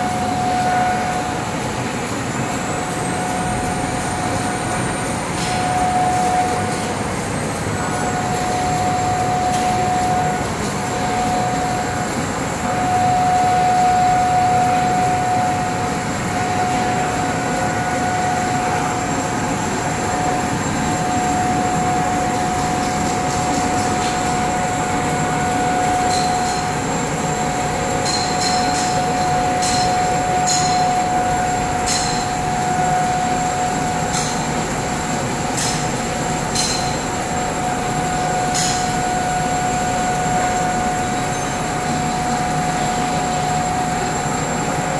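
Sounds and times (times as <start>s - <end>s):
high whine: 0.0s - 44.9s
machine mechanical hum: 0.0s - 44.9s.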